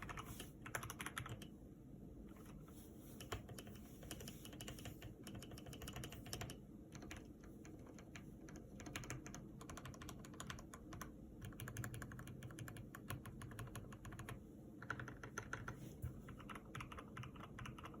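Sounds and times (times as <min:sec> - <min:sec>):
mechanical keyboard typing: 0:00.0 - 0:01.5, 0:03.2 - 0:18.0.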